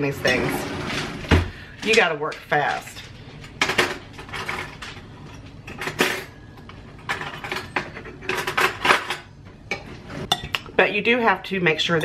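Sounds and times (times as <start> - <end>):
utensils and dishes clattering: 0.0 - 10.7.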